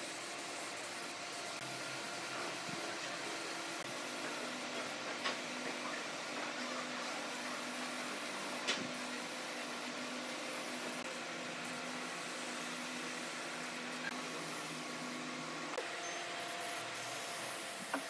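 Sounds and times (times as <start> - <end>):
spray gun hissing: 0.4 - 15.2, 16.4 - 18.0.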